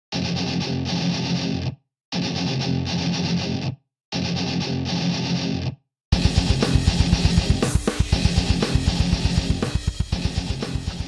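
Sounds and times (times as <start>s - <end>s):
distorted electric guitar chords: 0.1s - 11.0s.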